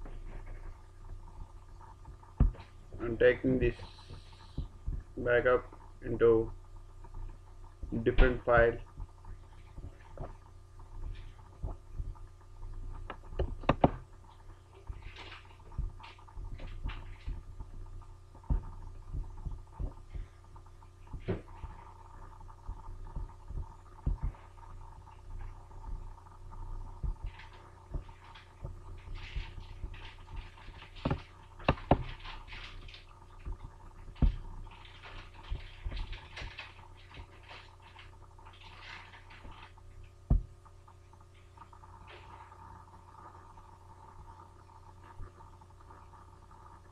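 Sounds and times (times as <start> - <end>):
low electrical hum: 0.0 - 46.9.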